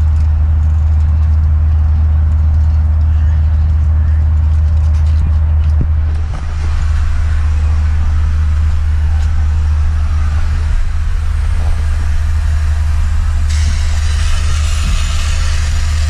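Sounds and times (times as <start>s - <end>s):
road running noise hiss: 0.0s - 16.0s
vehicle engine drone: 0.0s - 16.0s.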